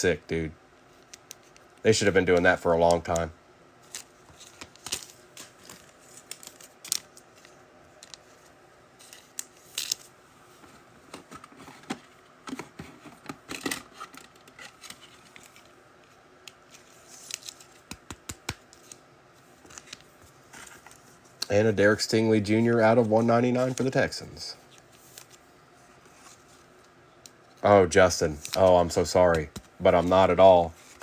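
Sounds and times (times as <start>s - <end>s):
trading cards being handled: 0.9s - 31.0s.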